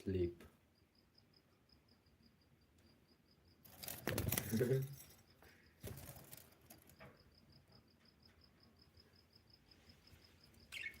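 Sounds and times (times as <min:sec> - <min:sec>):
faint high chirping: 0:00.0 - 0:06.1, 0:06.7 - 0:11.0.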